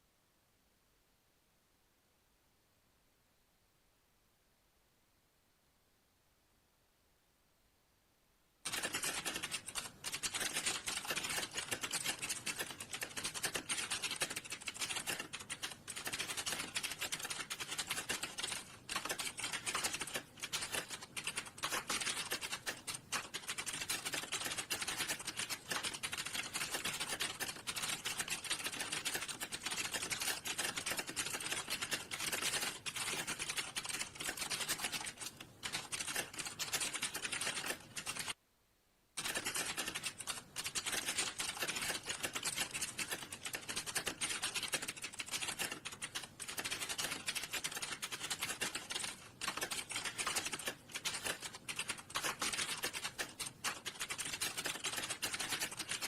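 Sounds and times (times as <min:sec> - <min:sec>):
computer keyboard typing: 0:08.6 - 0:38.4, 0:39.2 - 0:56.0.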